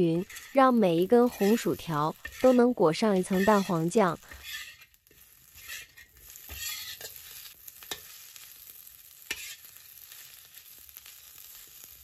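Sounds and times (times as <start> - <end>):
metal spatula scraping wok: 0.0 - 12.0
sauce sizzling: 0.0 - 12.0.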